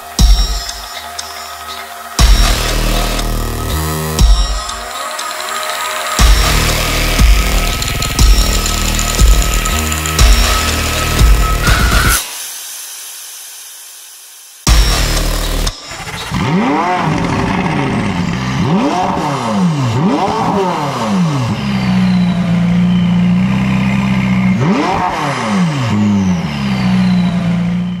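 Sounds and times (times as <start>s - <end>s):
car engine revving: 0.0s - 12.2s, 14.7s - 28.0s.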